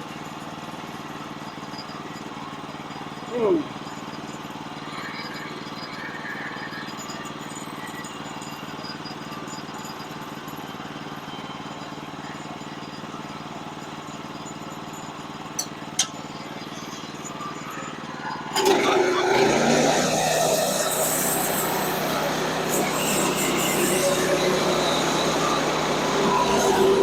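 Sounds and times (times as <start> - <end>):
sawmill engine running: 0.1 - 27.0.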